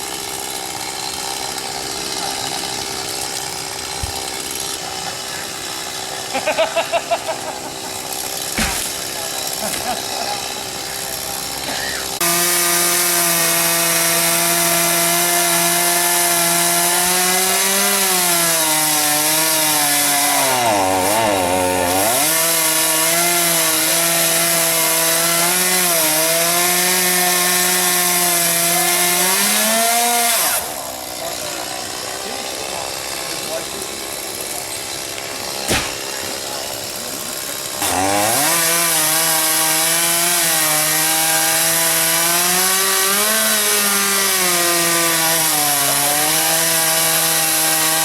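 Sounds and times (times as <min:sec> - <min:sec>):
chainsaw cutting wood: 0:00.0 - 0:48.0.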